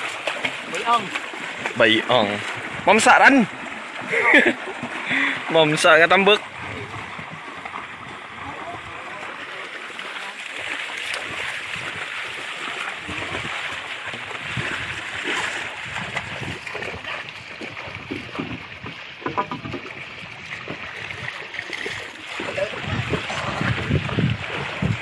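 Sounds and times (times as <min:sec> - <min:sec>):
water lapping around boat: 0:00.0 - 0:25.0.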